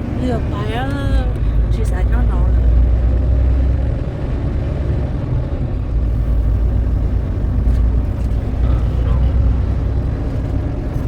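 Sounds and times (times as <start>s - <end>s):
road noise inside truck cab: 0.0s - 11.0s
truck engine drone: 0.0s - 11.0s.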